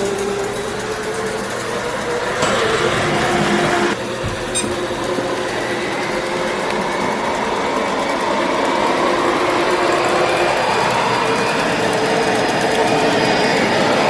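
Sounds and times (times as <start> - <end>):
robot vacuum whirring: 0.0 - 14.0.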